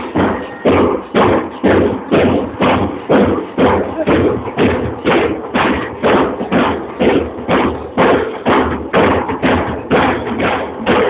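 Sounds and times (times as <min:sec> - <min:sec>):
drums beating march rhythm: 0:00.0 - 0:11.0.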